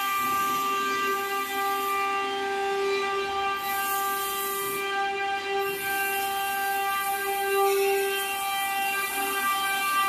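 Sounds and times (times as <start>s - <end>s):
hiss: 0.0s - 10.0s
machine whine: 0.0s - 10.0s.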